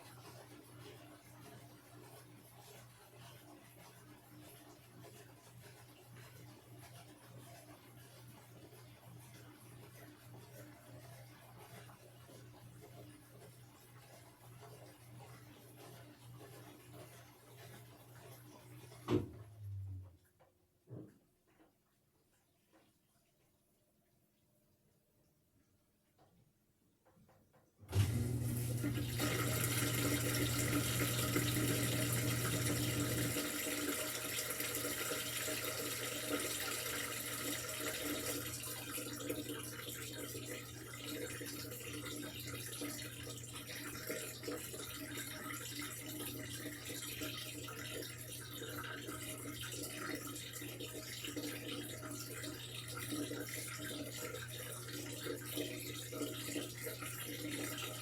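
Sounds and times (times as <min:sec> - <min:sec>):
water pouring into washing machine: 0:00.0 - 0:19.8, 0:27.9 - 0:58.0.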